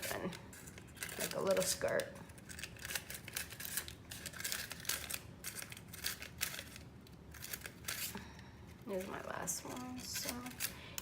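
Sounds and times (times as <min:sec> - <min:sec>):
scissors snipping paper: 0:00.0 - 0:08.2, 0:08.9 - 0:11.0
paper crinkling: 0:00.0 - 0:11.0.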